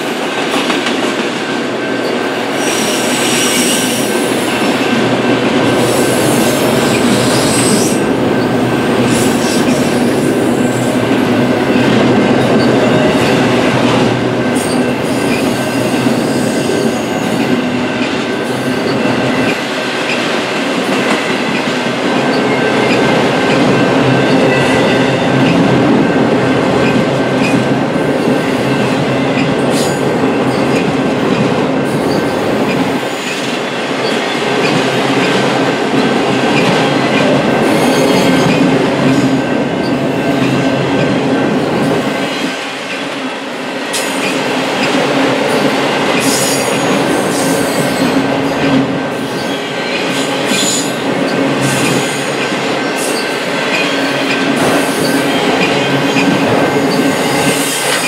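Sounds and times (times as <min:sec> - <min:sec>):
train clicks: 0:00.0 - 0:58.0
train wheels on rail: 0:00.0 - 0:58.0.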